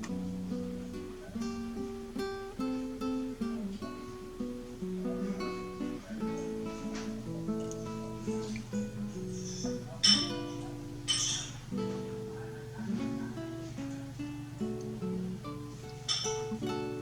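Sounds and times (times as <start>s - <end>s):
acoustic guitar plucked and strummed: 0.0s - 17.0s.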